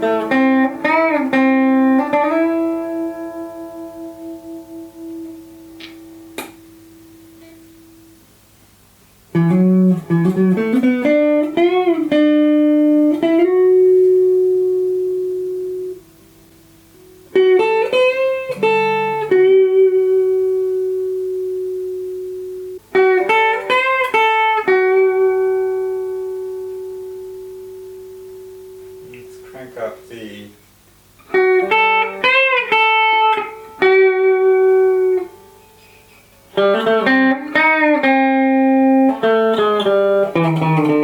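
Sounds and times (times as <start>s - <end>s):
electric guitar lead phrases: 0.0s - 8.4s, 9.3s - 41.0s
faint amp hum: 0.0s - 41.0s.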